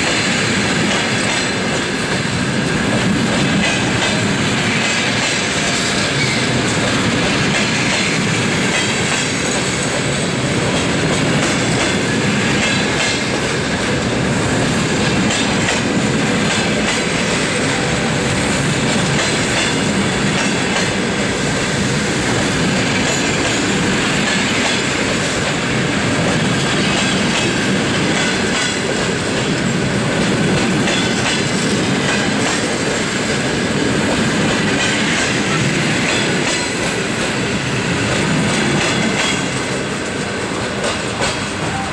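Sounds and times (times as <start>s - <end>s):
train wheels clattering over rail joints: 0.0s - 41.8s.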